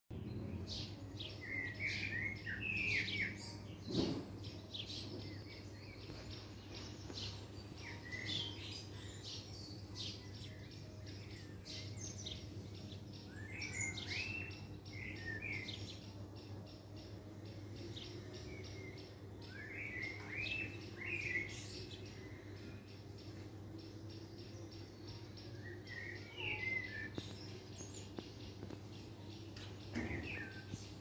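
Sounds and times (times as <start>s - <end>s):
small birds chirping: 0.1s - 31.0s.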